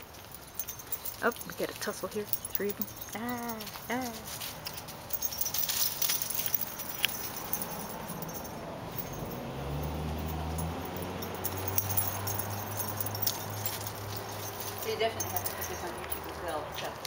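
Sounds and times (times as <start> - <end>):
kittens rustling through dry leaves: 0.0 - 17.0.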